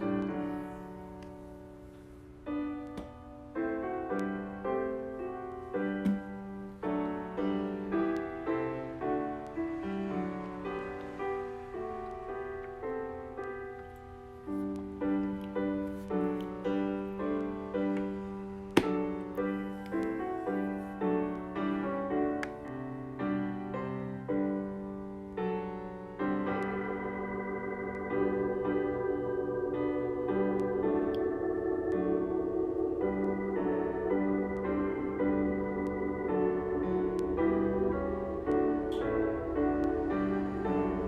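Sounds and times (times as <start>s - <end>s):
soft piano music: 0.0s - 41.0s.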